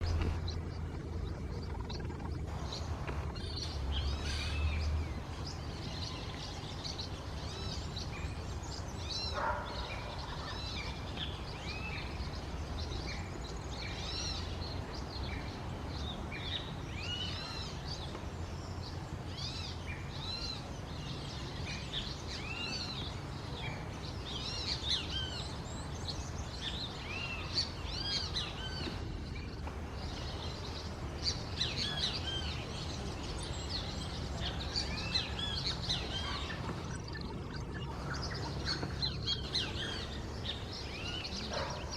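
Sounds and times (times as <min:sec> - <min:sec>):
birds chirping: 0:00.0 - 0:41.9
steady low rumble: 0:00.0 - 0:41.9.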